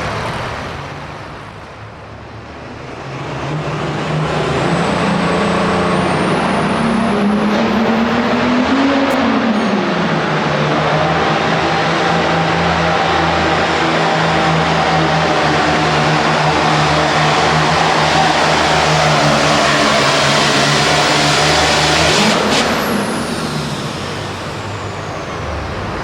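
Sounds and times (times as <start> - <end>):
tractor diesel engine under load: 0.0 - 26.0
high turbo whistle: 4.5 - 26.0.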